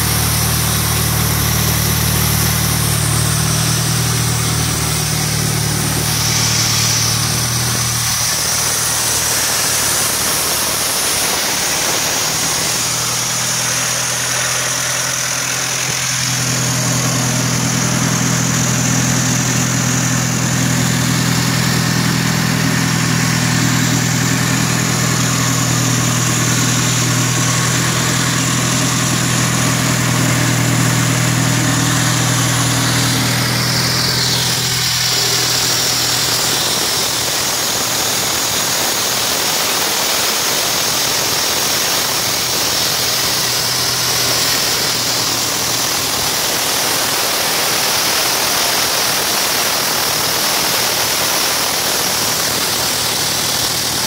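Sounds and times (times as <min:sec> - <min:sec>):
concrete saw diesel engine running: 0:00.0 - 0:54.0.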